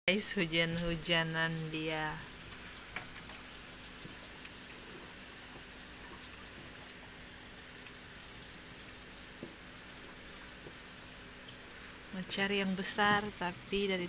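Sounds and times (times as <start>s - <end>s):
rain falling: 0.1s - 14.0s.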